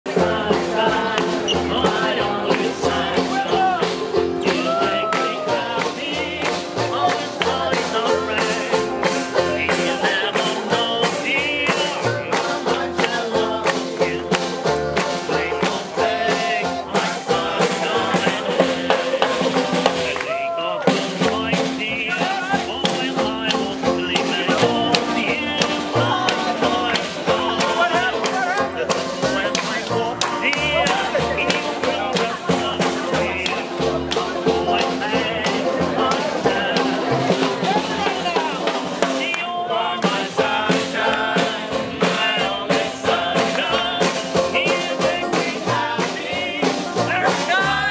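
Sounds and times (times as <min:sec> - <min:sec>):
banjo: 0:00.0 - 0:47.9
upright bass: 0:00.0 - 0:47.9
snare drum beat: 0:00.1 - 0:47.9.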